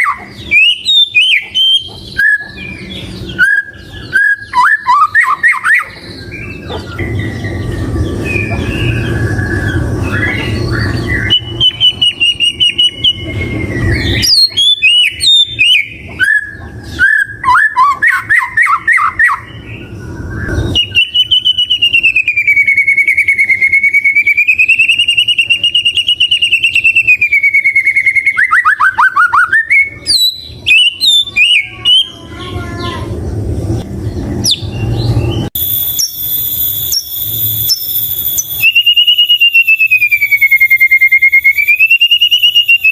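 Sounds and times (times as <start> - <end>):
bird singing varied notes: 0.0 - 42.9.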